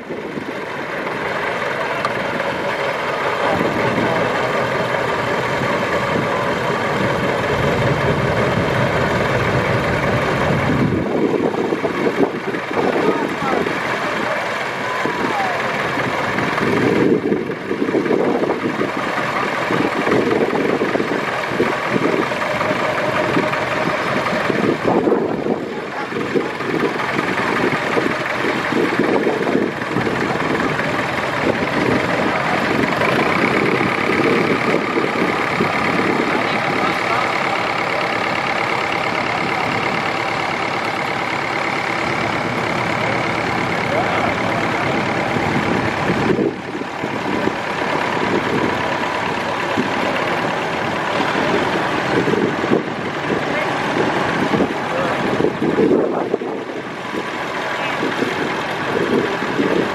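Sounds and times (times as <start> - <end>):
tractor engines chugging: 0.0 - 59.9.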